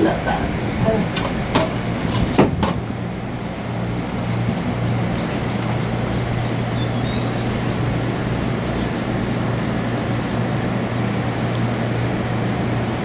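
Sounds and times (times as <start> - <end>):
gondola cabin humming on cable: 0.0 - 13.0.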